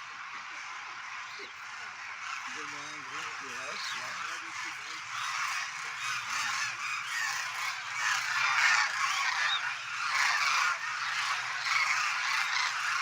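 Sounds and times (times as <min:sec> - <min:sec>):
flock of cranes calling: 0:00.0 - 0:13.0.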